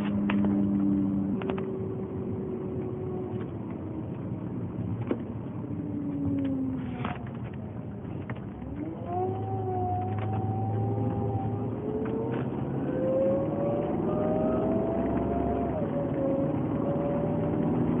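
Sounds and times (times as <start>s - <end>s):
car engine hum: 0.0s - 18.0s
car whirring whine: 0.0s - 18.0s.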